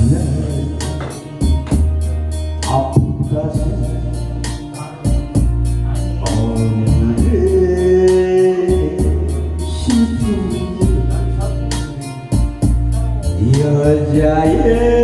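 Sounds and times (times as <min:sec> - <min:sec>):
bass line: 0:00.0 - 0:15.0
held melody line: 0:00.0 - 0:15.0.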